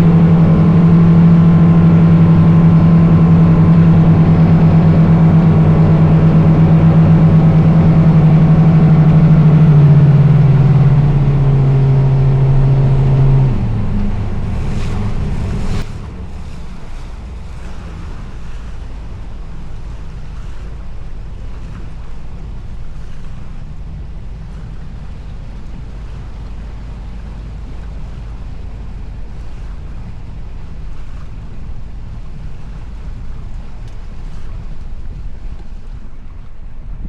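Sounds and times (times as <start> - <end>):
boat engine running under load: 0.0 - 37.0
water noise: 0.0 - 37.0
wind: 0.0 - 37.0.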